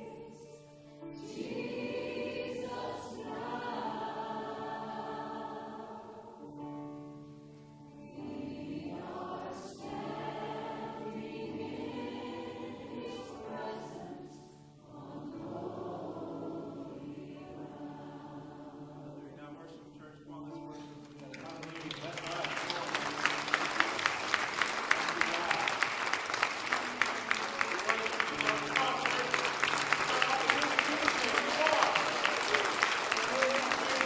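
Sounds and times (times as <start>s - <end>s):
choir singing worship song: 0.0s - 34.0s
musical accompaniment: 0.0s - 34.0s.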